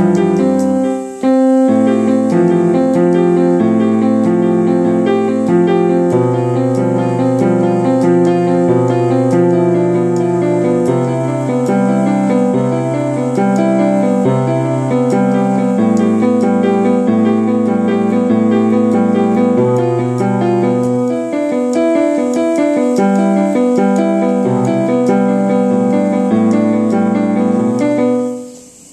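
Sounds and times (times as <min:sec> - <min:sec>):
slow piano chords: 0:00.0 - 0:28.9.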